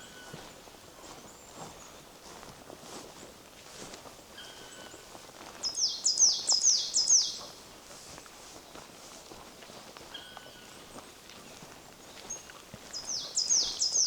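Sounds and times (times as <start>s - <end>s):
footsteps on forest path: 0.0s - 14.0s.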